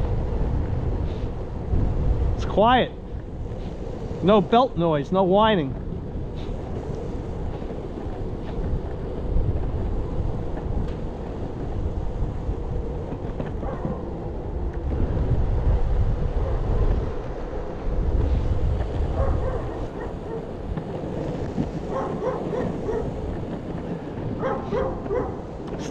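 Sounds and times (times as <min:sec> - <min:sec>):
skateboard wheels rolling on asphalt: 0:00.0 - 0:25.9
wind buffeting microphone: 0:00.0 - 0:25.9.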